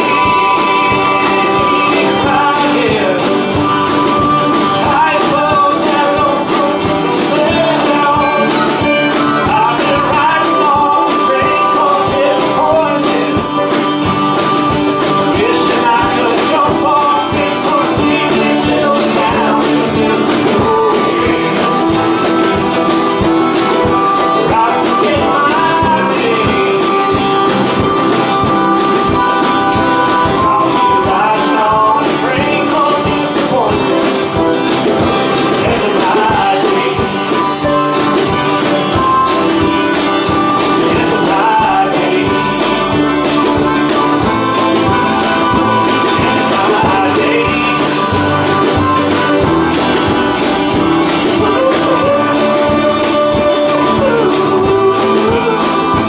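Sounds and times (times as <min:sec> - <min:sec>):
acoustic guitar: 0:00.0 - 0:56.0
drum kit: 0:00.0 - 0:56.0
harmonica: 0:00.0 - 0:56.0
man singing: 0:00.0 - 0:56.0.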